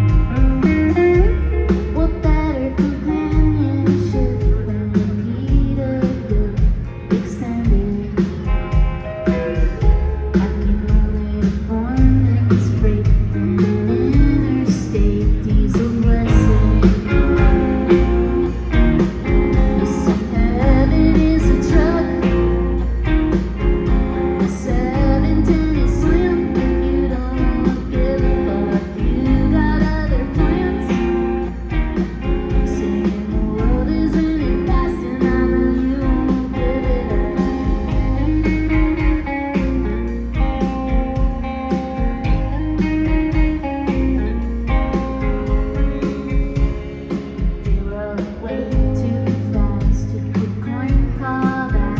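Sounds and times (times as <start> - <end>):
live rock band playing: 0.0 - 51.9
person singing: 0.0 - 51.9.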